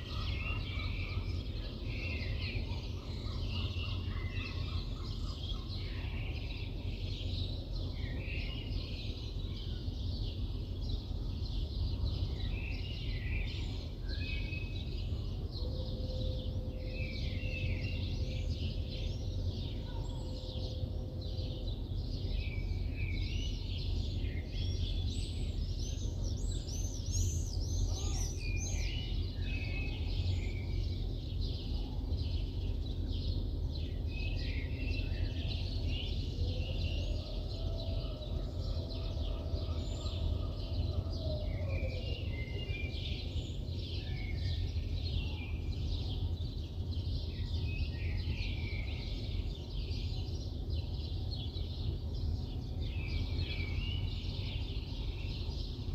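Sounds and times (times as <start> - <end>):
low city hum: 0.0 - 55.9.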